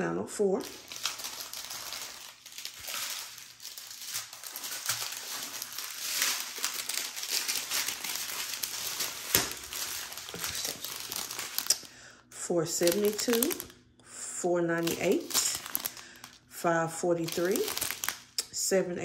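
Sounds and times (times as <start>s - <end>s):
plastic bags crinkling: 0.4s - 12.0s, 12.7s - 13.8s, 14.7s - 16.5s, 17.1s - 18.5s.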